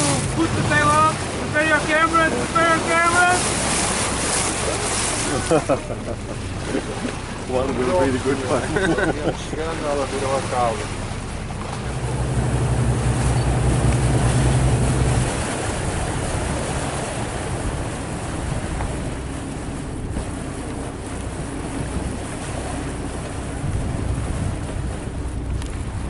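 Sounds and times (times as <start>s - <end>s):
boat engine running: 0.0s - 26.0s
sea noise: 0.0s - 26.0s
wind: 0.0s - 26.0s.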